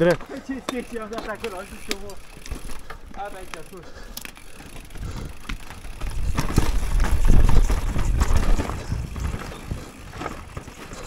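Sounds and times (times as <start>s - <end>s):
bike rattling and knocking: 0.0s - 11.0s
bike tyres rumbling over dirt: 0.0s - 11.0s.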